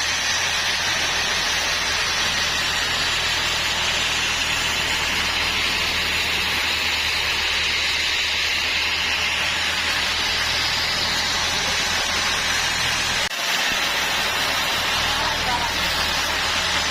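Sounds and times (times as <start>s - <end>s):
continuous machine hiss: 0.0s - 16.9s.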